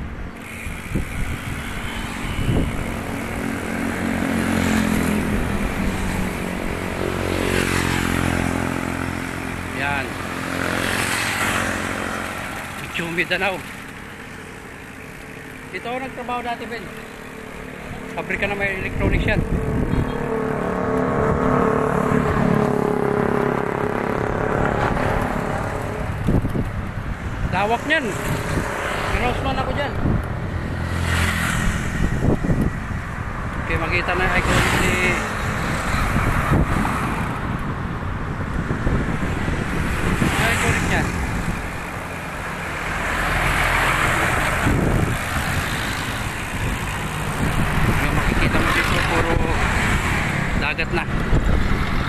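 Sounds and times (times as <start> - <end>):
wind on microphone: 0.0 - 12.5, 18.3 - 52.0
small motorcycles passing: 0.0 - 52.0.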